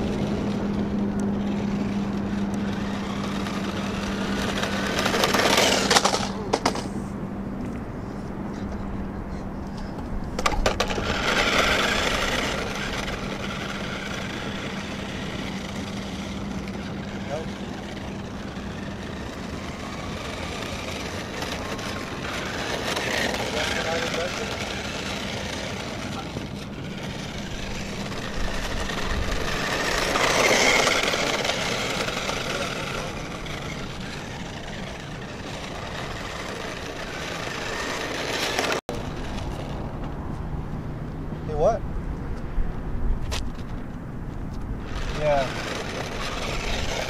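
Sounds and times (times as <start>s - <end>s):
toy car clicks: 0.0s - 7.0s, 9.7s - 39.8s, 44.9s - 47.0s
toy car motor whirring: 0.0s - 7.1s, 9.8s - 39.8s, 44.8s - 47.0s
tyres on rough asphalt: 0.0s - 47.0s.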